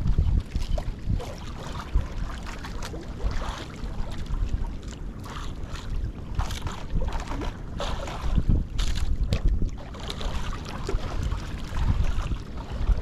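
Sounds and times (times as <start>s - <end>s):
choppy water splashing: 0.0s - 13.0s
wind buffeting microphone: 0.0s - 13.0s.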